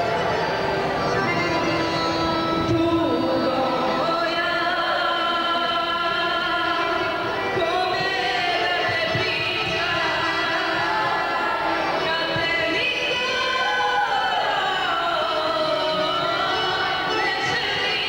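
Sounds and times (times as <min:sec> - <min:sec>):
woman singing into microphone: 0:01.0 - 0:18.0.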